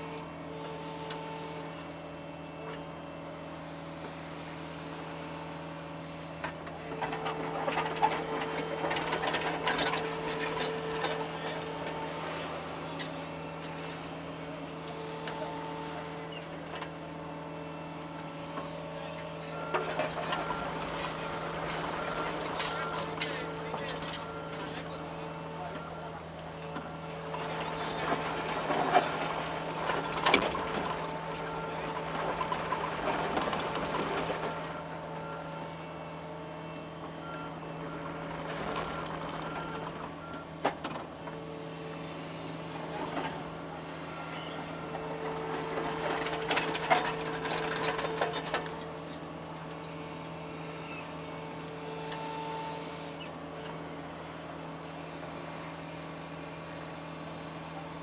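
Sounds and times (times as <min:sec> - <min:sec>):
excavator digging: 0:00.0 - 0:58.0.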